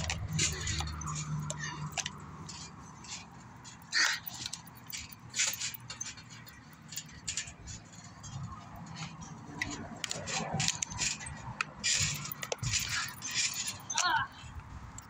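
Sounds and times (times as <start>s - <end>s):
trampoline mat and springs swishing: 0.0s - 15.0s.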